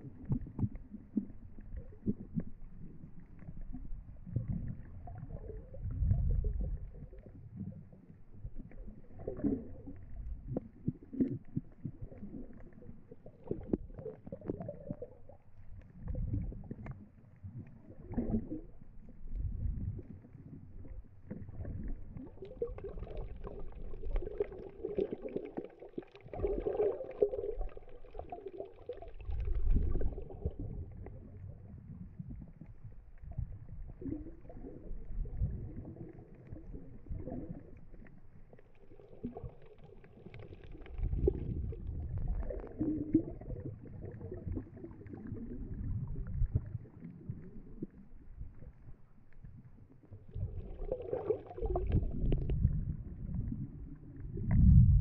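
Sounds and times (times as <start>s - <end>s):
underwater rumbling and gurgling: 0.0s - 55.0s.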